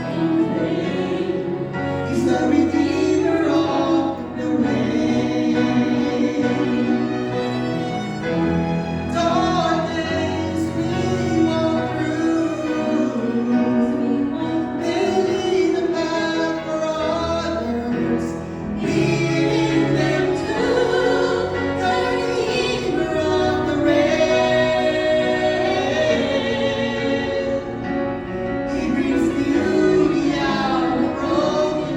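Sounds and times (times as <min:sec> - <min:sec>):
musical accompaniment: 0:00.0 - 0:31.9.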